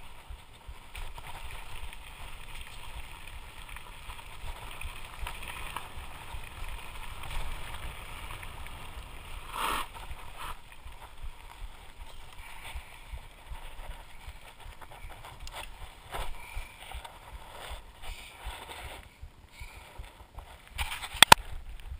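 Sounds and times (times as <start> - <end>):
bike knocking and rattling: 0.0 - 21.9
bike tyres rolling over gravel: 0.0 - 21.9
wind rumbling on microphone: 0.0 - 21.9.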